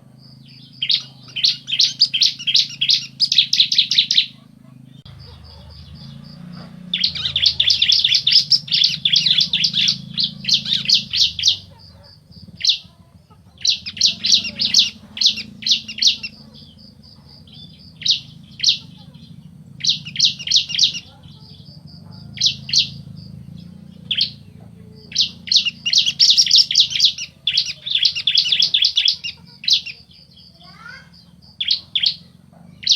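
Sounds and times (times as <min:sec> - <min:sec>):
birds chattering trills: 0:00.0 - 0:32.9
faint low hum: 0:00.0 - 0:32.9.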